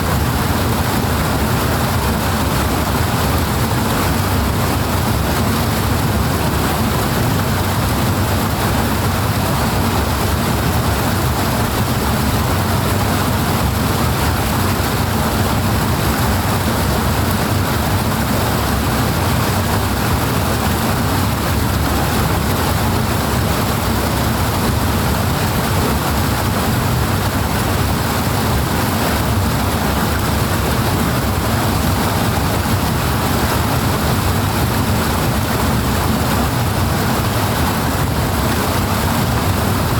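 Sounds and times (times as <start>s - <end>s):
powerful rushing water: 0.0s - 39.9s.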